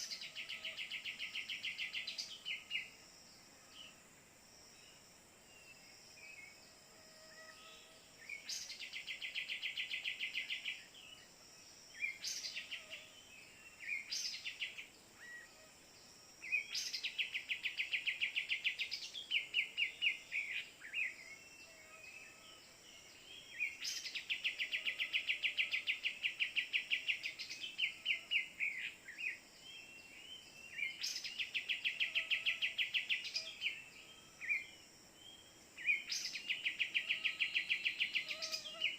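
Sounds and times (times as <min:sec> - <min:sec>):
high insect hum: 0:00.0 - 0:38.9.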